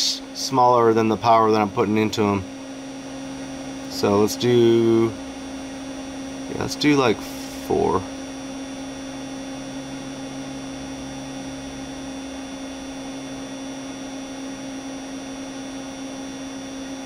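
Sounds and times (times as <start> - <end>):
amplifier electrical hum: 0.0 - 17.0.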